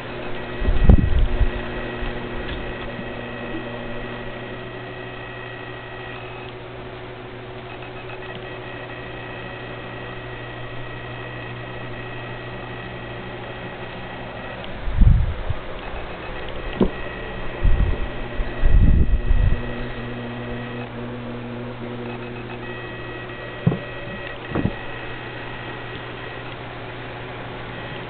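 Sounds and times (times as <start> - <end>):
machine-like hum: 0.0 - 28.0.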